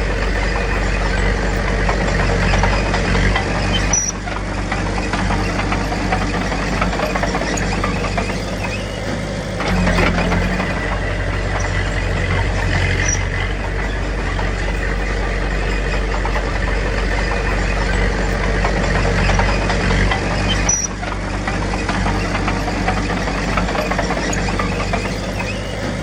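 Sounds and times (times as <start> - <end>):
heavy diesel engine running: 0.0 - 26.0
metallic clatter: 0.0 - 26.0.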